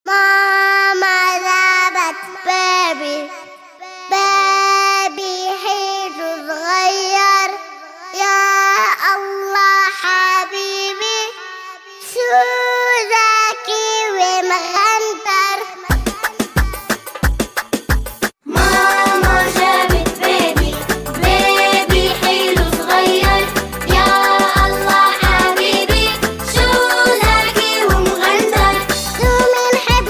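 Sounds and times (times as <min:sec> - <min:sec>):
child singing: 0:00.1 - 0:17.2, 0:18.5 - 0:30.0.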